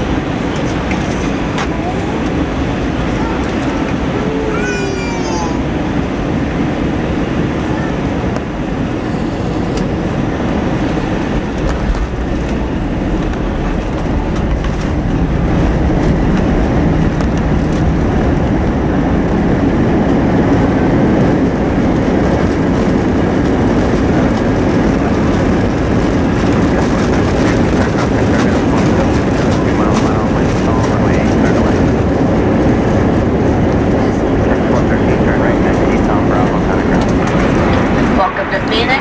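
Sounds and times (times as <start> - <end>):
rumble of wheels and engines: 0.0 - 39.0.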